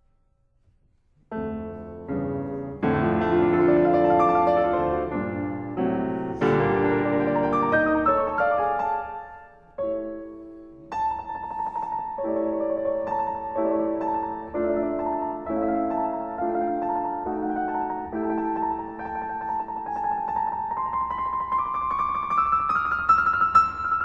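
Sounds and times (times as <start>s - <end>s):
piano music: 1.2s - 24.0s.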